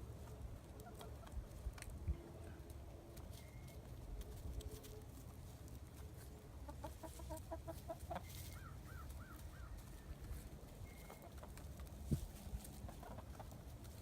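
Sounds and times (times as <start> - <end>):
chickens clucking: 0.0 - 1.9, 3.1 - 14.0.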